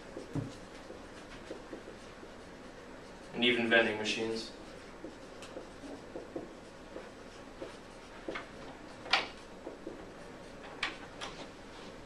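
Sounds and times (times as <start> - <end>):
marker scratching on whiteboard: 0.0 - 12.0.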